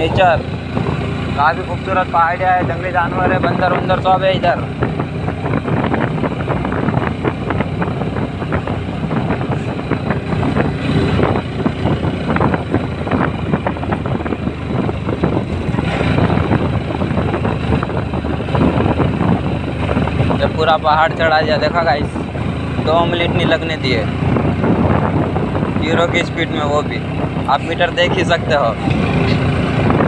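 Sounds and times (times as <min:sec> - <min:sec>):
motorcycle engine running: 0:00.0 - 0:30.0
wind buffeting microphone: 0:00.0 - 0:30.0.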